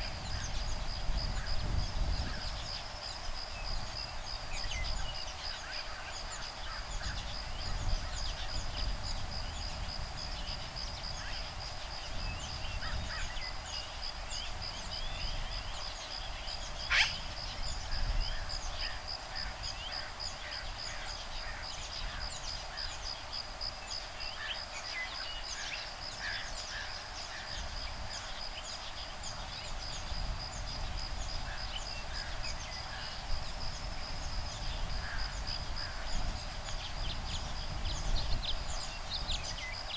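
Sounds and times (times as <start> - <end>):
low breeze rumble: 0.0 - 39.9.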